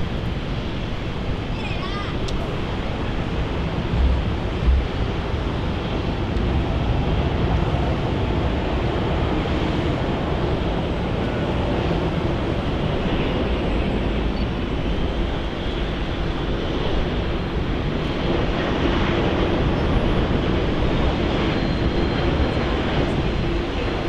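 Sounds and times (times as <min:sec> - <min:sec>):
steady rushing noise: 0:00.0 - 0:24.0
wind buffeting microphone: 0:00.0 - 0:24.0.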